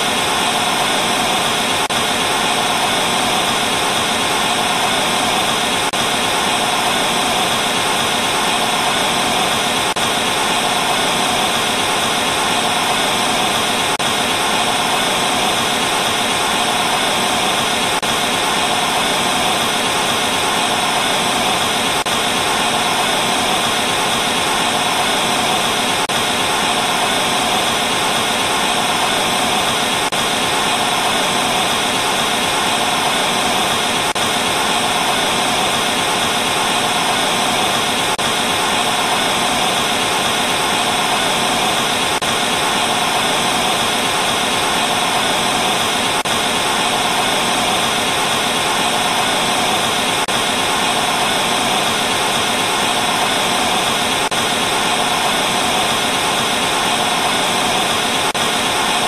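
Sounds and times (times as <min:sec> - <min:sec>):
tv static hiss: 0:00.0 - 0:59.0.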